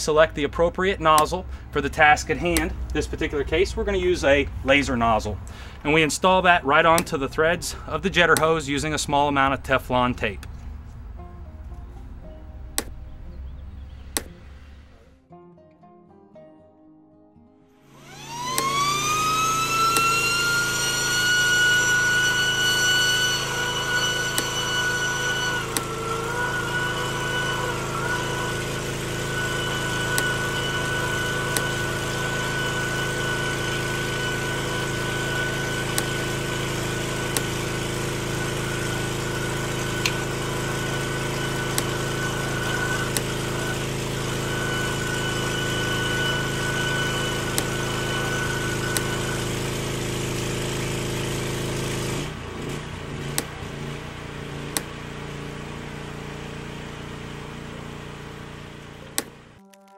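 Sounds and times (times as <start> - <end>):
pressure washer whine: 0.0 - 10.8, 17.8 - 59.7.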